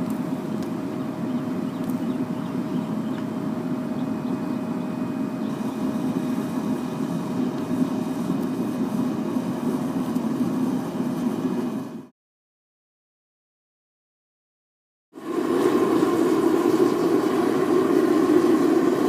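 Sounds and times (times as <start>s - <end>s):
faint steady whine: 0.0s - 12.1s, 15.2s - 19.0s
propane burner roaring: 0.0s - 12.1s, 15.1s - 19.0s.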